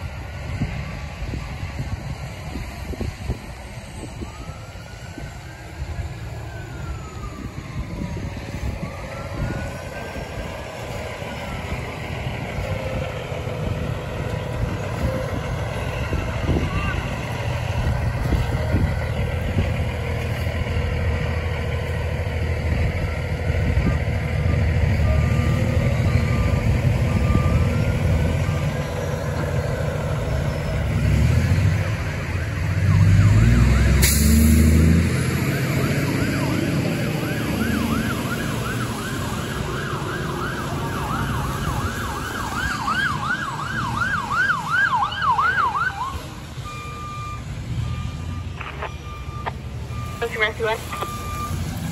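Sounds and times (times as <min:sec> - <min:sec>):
fire engine siren yelping: 0:00.0 - 0:51.9.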